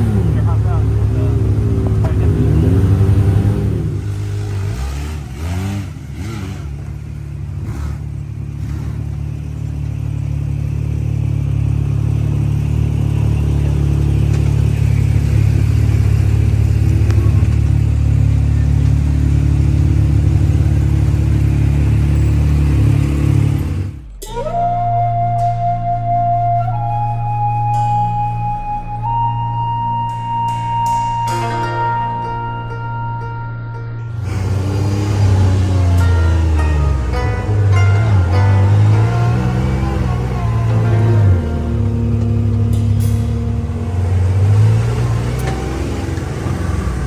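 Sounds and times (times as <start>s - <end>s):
utility vehicle engine revving: 0.0s - 33.2s, 33.9s - 47.0s.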